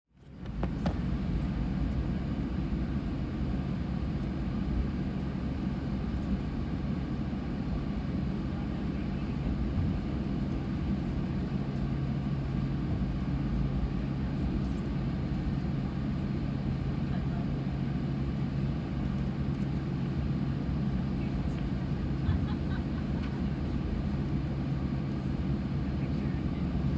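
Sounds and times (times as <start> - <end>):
aircraft engines humming: 0.2 - 26.9.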